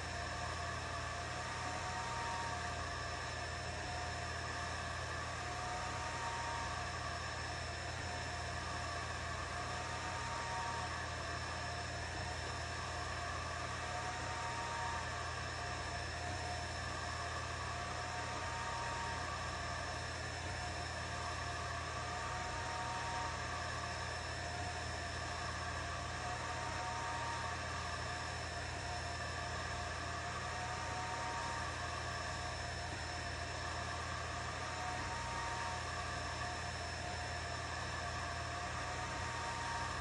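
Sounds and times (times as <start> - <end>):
alternating mid-pitched whine: 0.0 - 40.0
constant high whine: 0.0 - 40.0
fan hum and hiss: 0.0 - 40.0.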